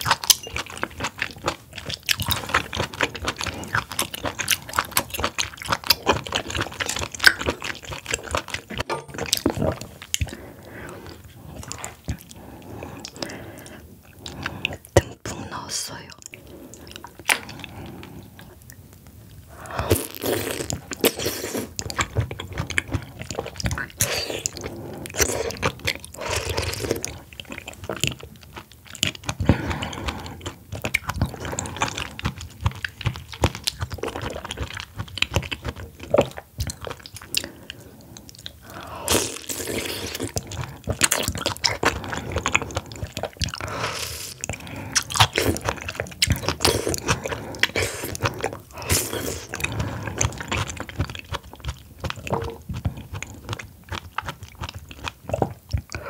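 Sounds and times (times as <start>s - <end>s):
wet chewing and crunching: 0.0s - 15.3s, 16.0s - 56.0s.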